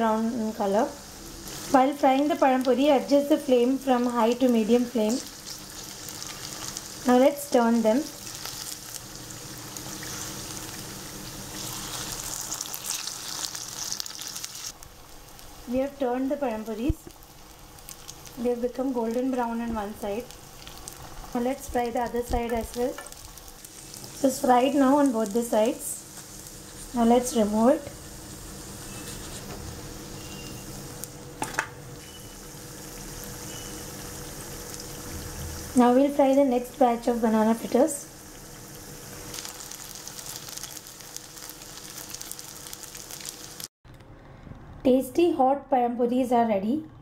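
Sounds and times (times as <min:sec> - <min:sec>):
fritters sizzling in oil: 0:00.0 - 0:43.7.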